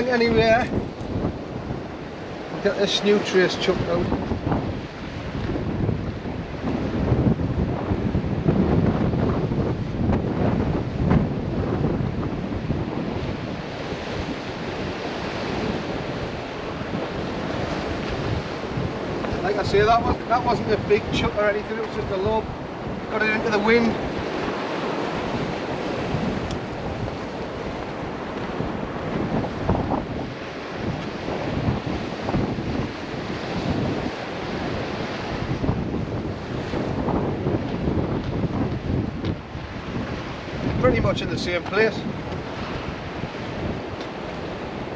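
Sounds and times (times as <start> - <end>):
waves washing on shore: 0.0 - 44.9
wind buffeting microphone: 0.0 - 44.9.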